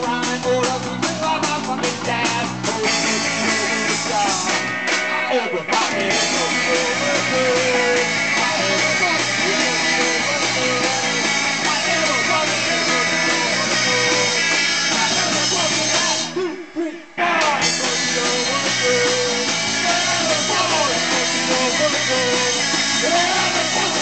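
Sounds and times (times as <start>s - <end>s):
drum kit beating: 0.0s - 16.4s, 17.2s - 24.0s
electric guitars: 0.0s - 24.0s.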